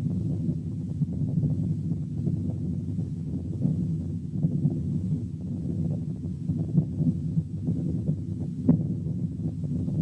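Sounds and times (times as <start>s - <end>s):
low humming venous murmur: 0.0s - 10.0s.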